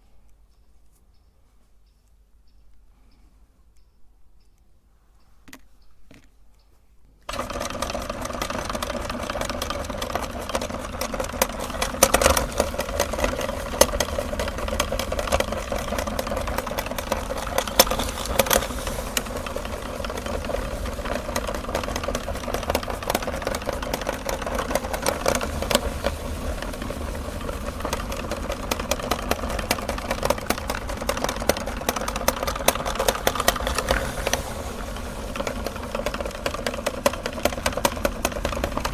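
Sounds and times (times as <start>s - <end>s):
cookies crackling in grinder: 7.3s - 38.9s
meat grinder motor hum: 7.3s - 38.9s.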